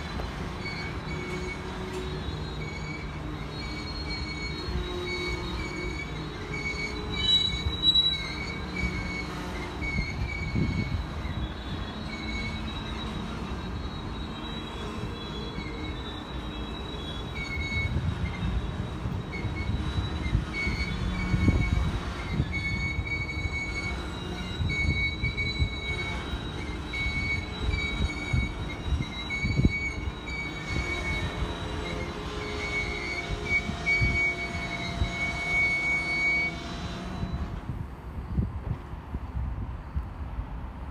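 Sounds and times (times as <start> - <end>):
train wheels squealing: 0.0 - 38.8, 39.8 - 40.9
rumble of train wheels: 0.0 - 40.9.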